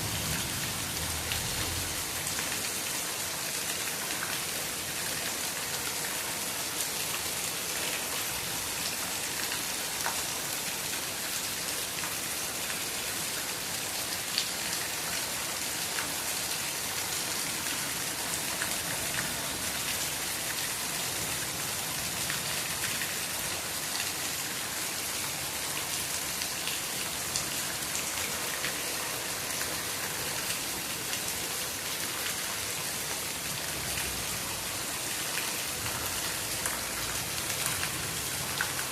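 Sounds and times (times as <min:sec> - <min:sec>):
raindrops ticking on surfaces: 0:00.0 - 0:38.9
steady rain hiss: 0:00.0 - 0:38.9.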